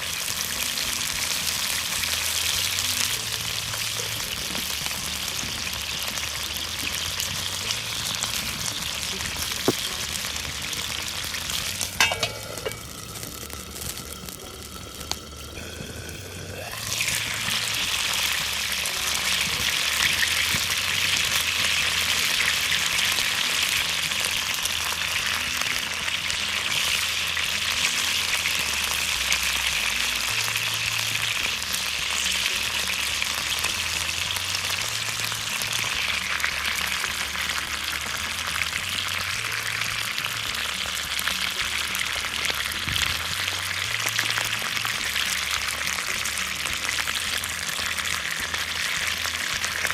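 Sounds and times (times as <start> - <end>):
food sizzling in a hot pan: 0.0 - 49.9.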